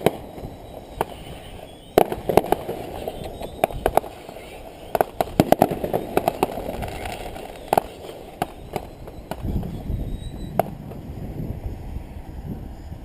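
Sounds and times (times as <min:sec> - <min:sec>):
fireworks bursting: 0:00.0 - 0:11.4.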